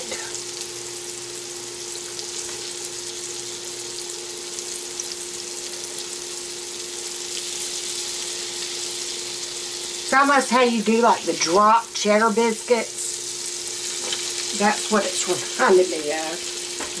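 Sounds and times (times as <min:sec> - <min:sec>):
food sizzling in oil: 0:00.0 - 0:17.0
steady low hum: 0:00.0 - 0:17.0.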